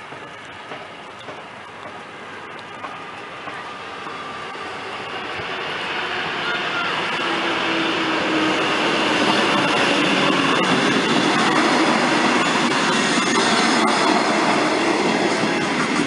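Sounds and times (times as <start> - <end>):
train carriages rumbling by: 0.0 - 16.0.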